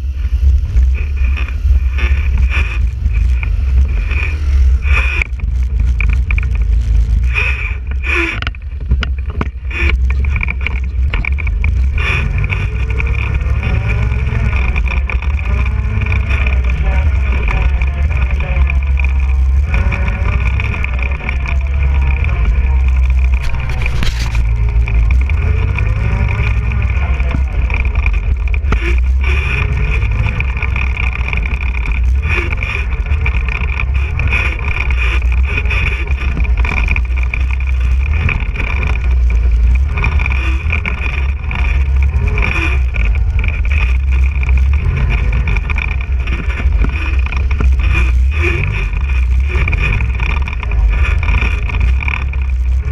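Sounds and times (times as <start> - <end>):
quad engine rumbling: 0.0 - 52.9.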